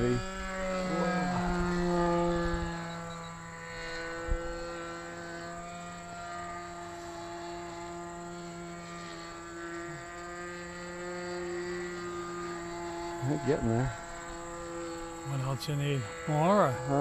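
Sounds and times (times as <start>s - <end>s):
model aircraft motor droning: 0.0s - 17.0s.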